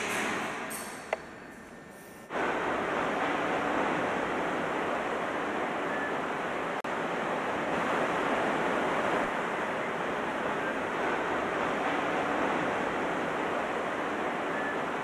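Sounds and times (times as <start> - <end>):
waves washing on sandy beach: 2.3 - 15.0.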